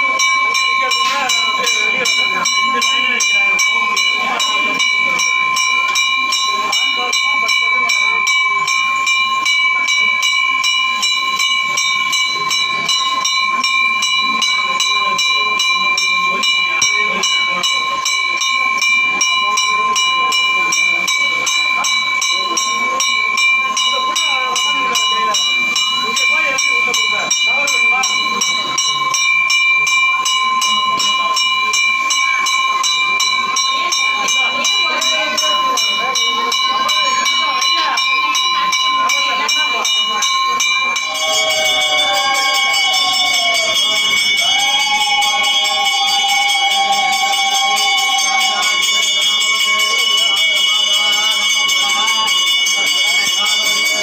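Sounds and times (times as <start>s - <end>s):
bell ringing: 0.0s - 54.0s
faint voices: 0.0s - 54.0s.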